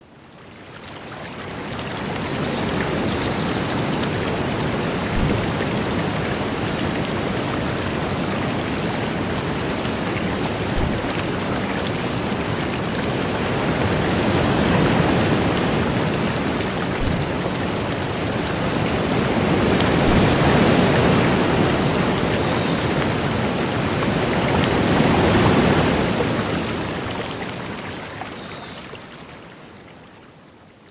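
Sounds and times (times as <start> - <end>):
river water rushing: 0.4 - 28.3.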